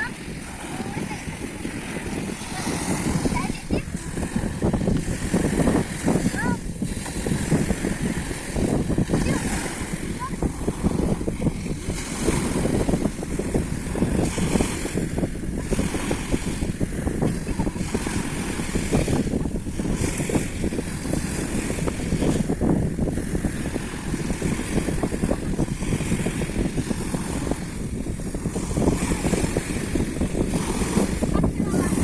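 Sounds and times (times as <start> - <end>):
sea waves rushing: 0.0 - 32.0
wind buffeting microphone: 0.0 - 32.0.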